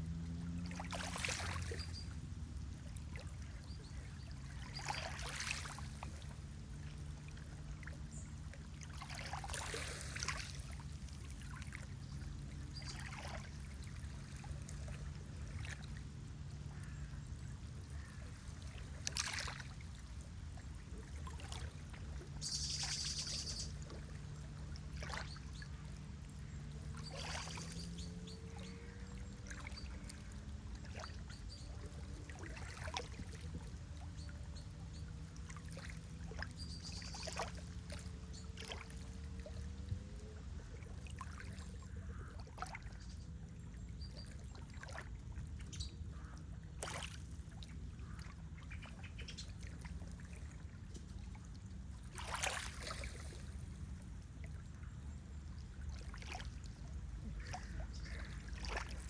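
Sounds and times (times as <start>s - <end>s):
lake water lapping: 0.0s - 59.0s
low steady rumble: 0.0s - 59.0s.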